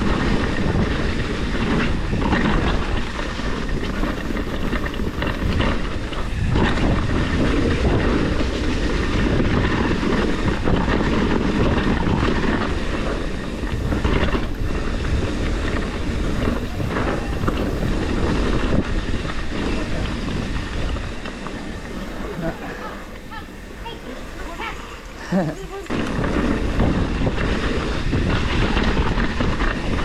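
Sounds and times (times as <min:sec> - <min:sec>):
bike rattling over bumps: 0:00.0 - 0:30.0
tyre and wind noise: 0:00.0 - 0:30.0.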